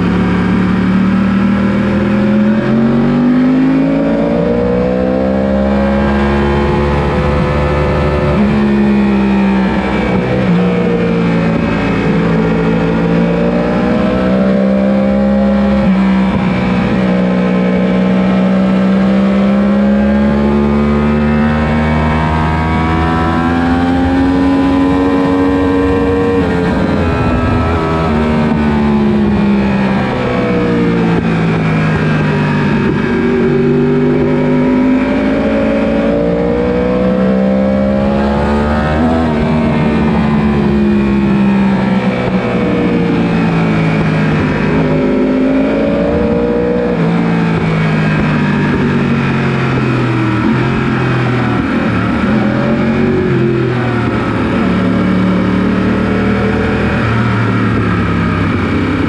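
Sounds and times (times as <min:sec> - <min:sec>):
racing motorcycle engines: 0:00.0 - 0:59.0.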